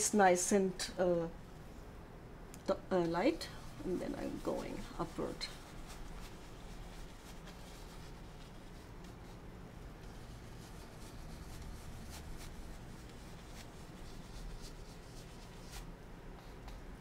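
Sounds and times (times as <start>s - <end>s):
steady low hum: 0.0s - 17.0s
scratchy brush strokes on canvas: 2.7s - 17.0s.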